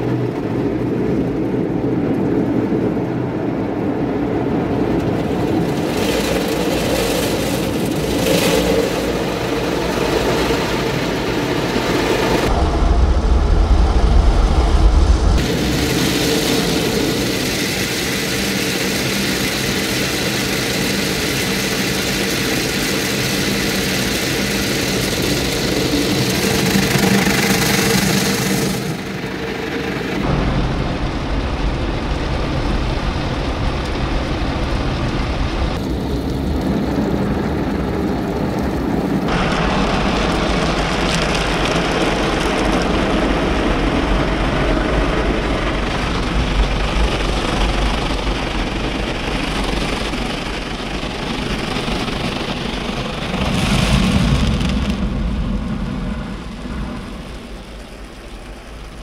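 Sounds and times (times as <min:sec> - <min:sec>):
low rumble: 0:00.0 - 0:59.0
water spraying: 0:05.0 - 0:59.0.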